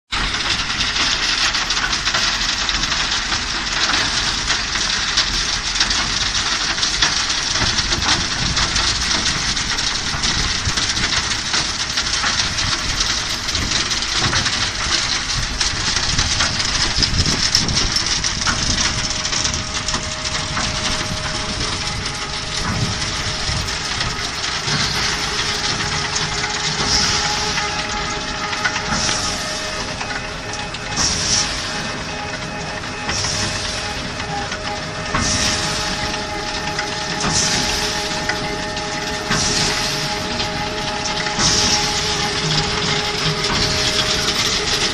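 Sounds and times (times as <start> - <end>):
sand sieving machine running: 0.1 - 44.9.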